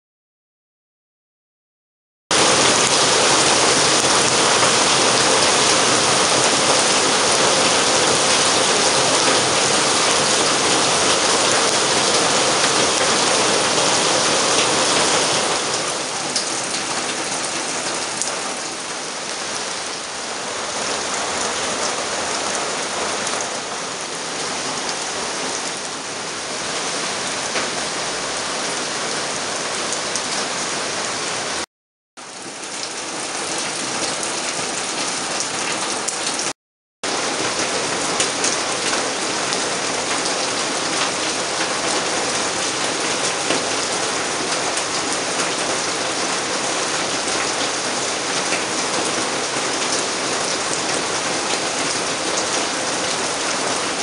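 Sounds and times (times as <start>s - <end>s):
heavy rain on foliage: 2.3s - 54.0s.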